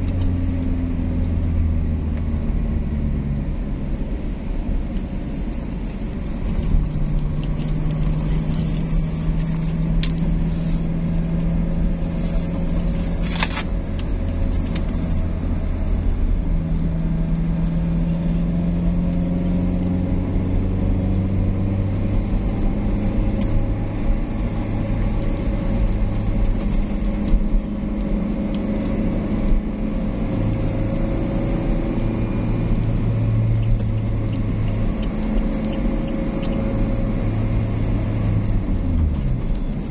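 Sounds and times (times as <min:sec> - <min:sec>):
car engine droning: 0:00.0 - 0:39.9
tyre and road rumble: 0:00.0 - 0:39.9.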